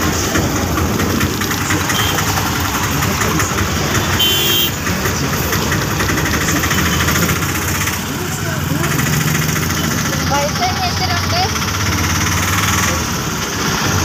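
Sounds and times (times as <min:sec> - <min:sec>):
small engine running rattly: 0:00.0 - 0:14.0
street traffic: 0:00.0 - 0:14.0.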